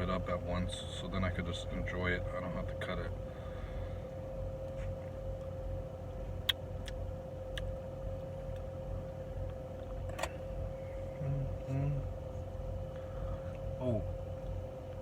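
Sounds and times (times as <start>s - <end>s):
faint constant hum: 0.0s - 15.0s
low background rumble: 0.0s - 15.0s.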